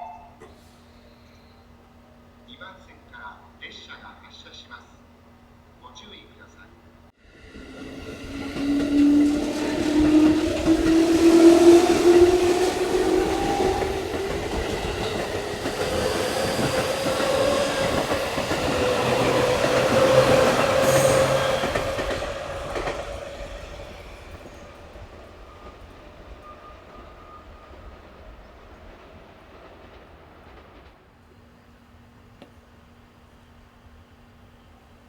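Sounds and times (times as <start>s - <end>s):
electric train whine: 0.0s - 35.0s.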